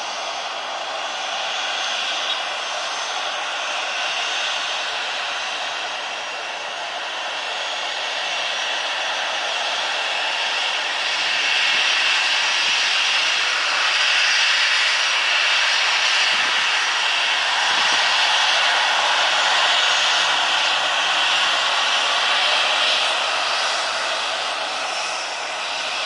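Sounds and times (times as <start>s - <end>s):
jet engines hissing and whining: 0.0s - 26.0s.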